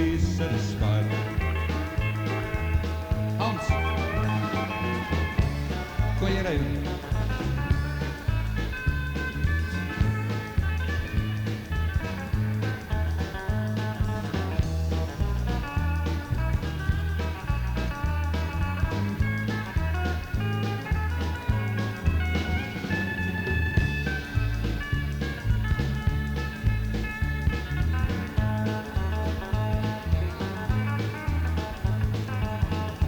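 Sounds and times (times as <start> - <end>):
bass line: 0.0 - 33.0
drums steady beat: 0.0 - 33.0
electric guitars: 0.0 - 33.0
live country band playing: 0.0 - 33.0
pedal steel guitar: 0.0 - 33.0.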